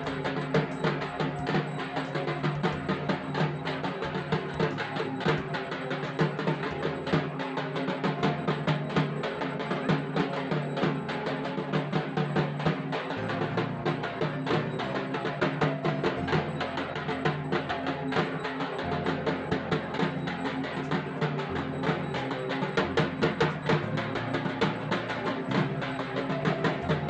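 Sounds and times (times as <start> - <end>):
fast drum beat: 0.0 - 27.0.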